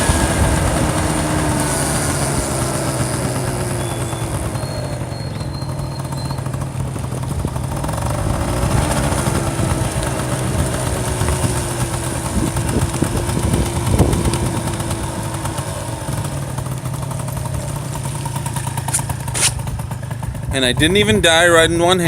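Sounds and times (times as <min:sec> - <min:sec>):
road and wind noise: 0:00.0 - 0:22.0
scooter engine running: 0:00.0 - 0:22.0.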